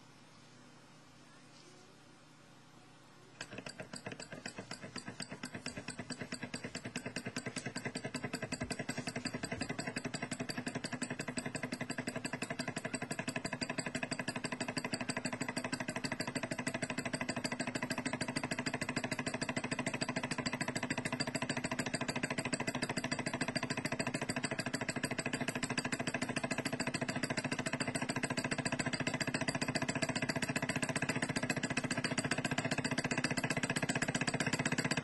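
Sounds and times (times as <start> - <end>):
hot-air engine mechanical clicking: 3.4 - 35.0.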